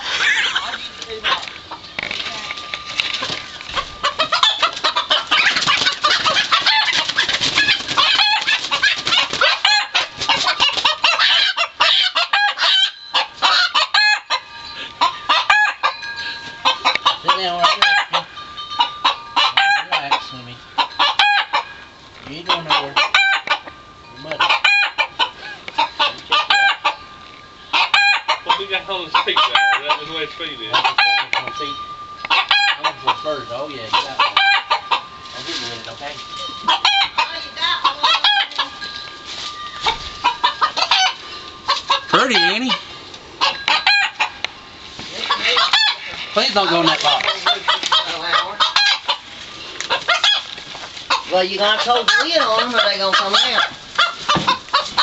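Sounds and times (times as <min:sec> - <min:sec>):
chickens clucking and squawking: 0:00.0 - 0:55.0
roosters crowing: 0:00.0 - 0:55.0.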